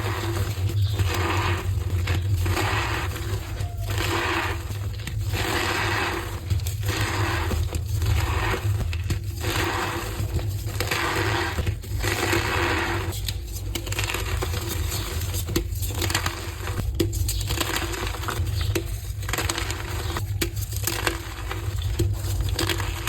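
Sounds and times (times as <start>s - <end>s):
chalk blocks crunching: 0.0s - 23.0s.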